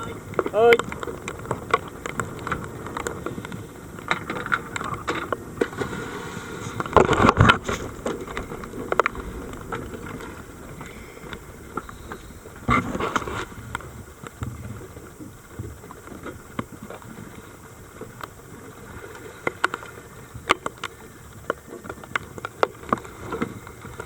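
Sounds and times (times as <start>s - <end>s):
steady low rumble: 0.0s - 19.4s.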